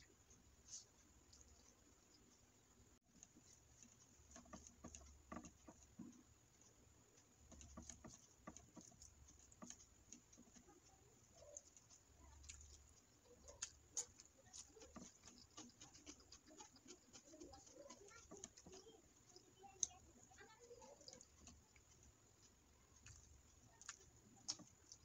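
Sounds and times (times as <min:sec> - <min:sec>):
chewing: 0:00.0 - 0:25.0
fingers mixing rice on plate: 0:00.0 - 0:25.0.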